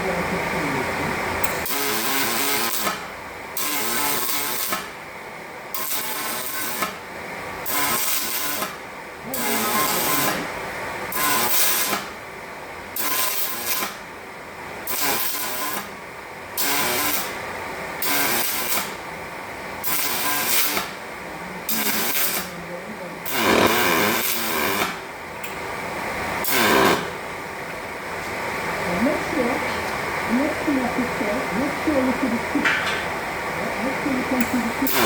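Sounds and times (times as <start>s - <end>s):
welding arc bursts: 0.0s - 5.1s, 5.7s - 27.5s, 30.2s - 35.0s.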